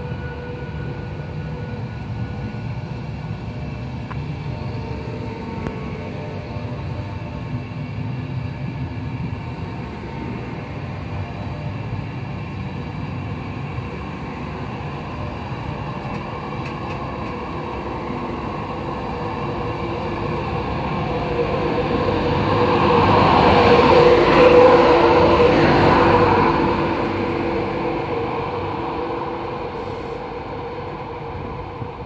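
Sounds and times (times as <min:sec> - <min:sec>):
steady whine: 0:00.0 - 0:32.0
train coaches rolling past: 0:00.0 - 0:32.0.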